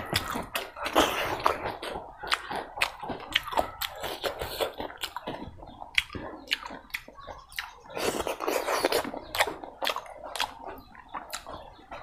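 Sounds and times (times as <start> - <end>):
chewing: 0.0 - 12.0
fingers squishing rice and curry: 0.0 - 12.0.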